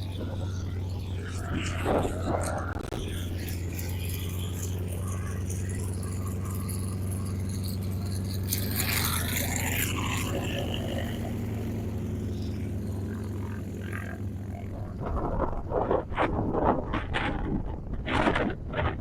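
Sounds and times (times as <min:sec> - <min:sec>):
propeller airplane engine drone: 0:00.0 - 0:19.0.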